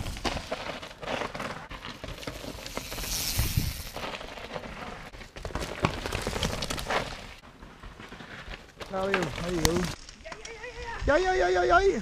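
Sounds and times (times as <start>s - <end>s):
bike tyres skidding on dirt: 0.0s - 10.7s
bike rattling: 0.0s - 11.4s.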